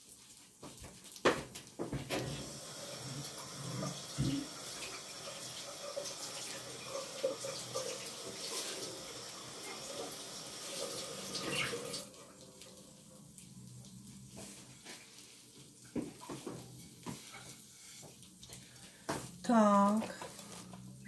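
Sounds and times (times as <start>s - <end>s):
tap water running into sink: 0.6s - 19.3s.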